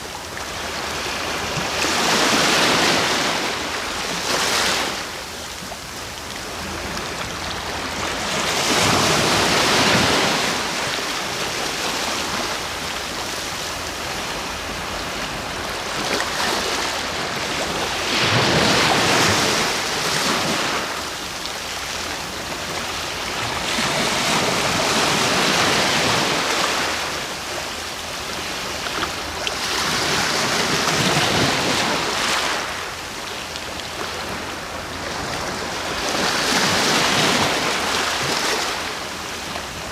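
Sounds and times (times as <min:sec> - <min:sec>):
sea waves breaking ashore: 0:00.0 - 0:39.9.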